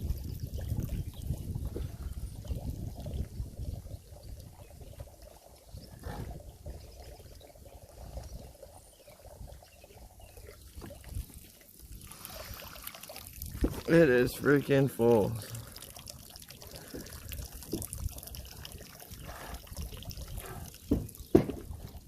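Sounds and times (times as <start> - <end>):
water pouring and trickling: 0.0 - 22.0.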